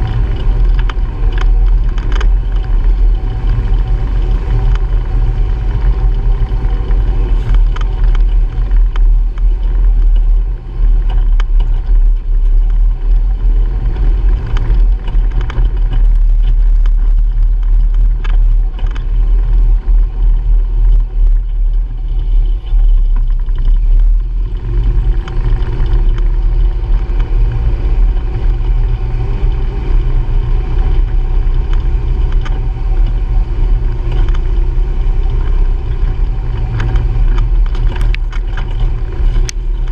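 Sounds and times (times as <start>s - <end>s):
engine rumbling: 0.0s - 39.9s.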